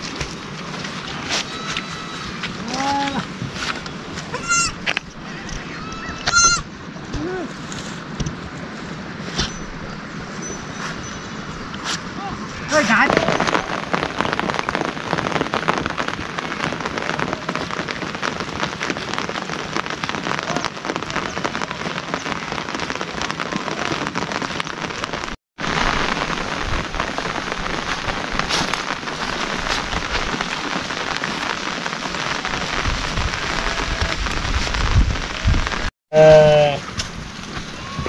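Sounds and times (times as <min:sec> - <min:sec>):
steady rain falling: 0:00.0 - 0:09.3, 0:09.9 - 0:38.0.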